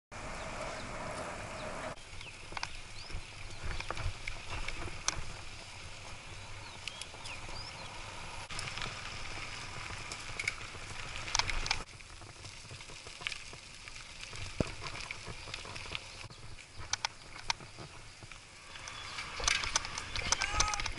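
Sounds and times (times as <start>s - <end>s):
tyre and wind noise: 0.1s - 20.9s
bicycle clicks and rattles: 2.0s - 7.9s, 8.5s - 20.9s.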